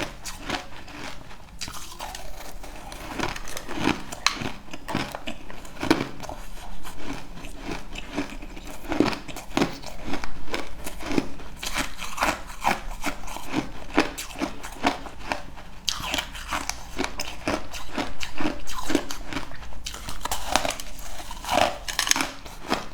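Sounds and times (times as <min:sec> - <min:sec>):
person chewing crunchy food: 0:00.0 - 0:22.9.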